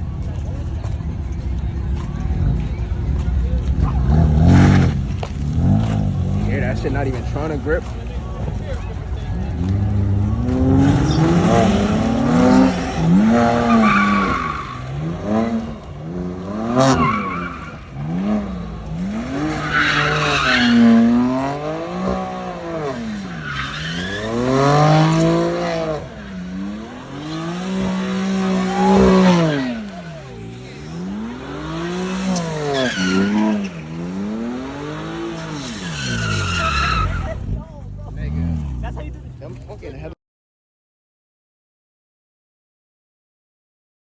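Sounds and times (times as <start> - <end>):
car engine revving: 0.0 - 40.1
tires squealing: 0.0 - 40.1.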